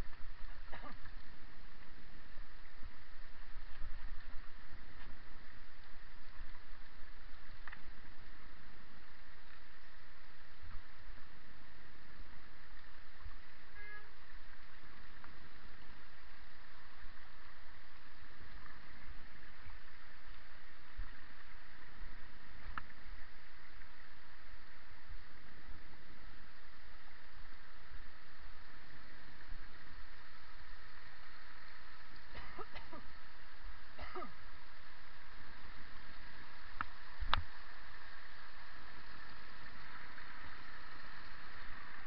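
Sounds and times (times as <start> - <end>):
mountain stream rushing: 0.0 - 42.0.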